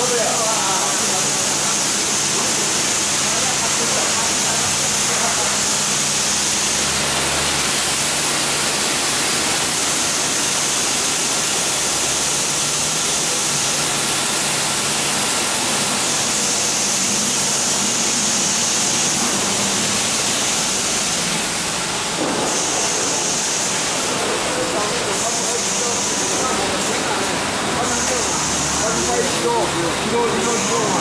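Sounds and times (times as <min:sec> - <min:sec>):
water spraying: 0:00.0 - 0:31.0.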